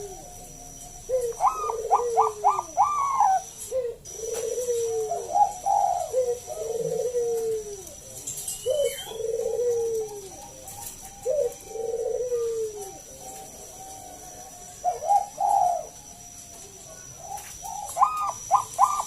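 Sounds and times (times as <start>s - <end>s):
dove trilled cooing: 0.0s - 19.0s.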